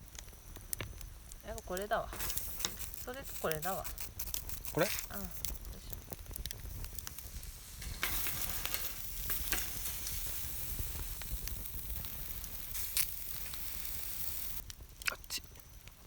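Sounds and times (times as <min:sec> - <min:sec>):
food sizzling in hot fat: 0:00.0 - 0:16.0.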